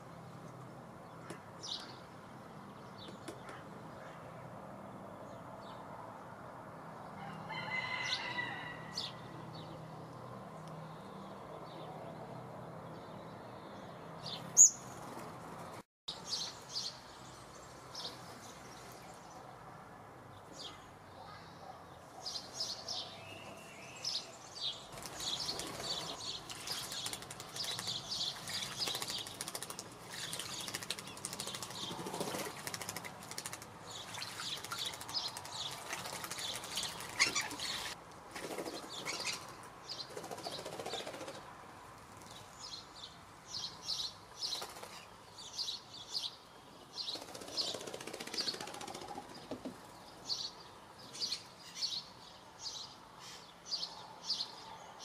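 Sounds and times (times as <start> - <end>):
wild birds chirping: 7.0 - 55.0.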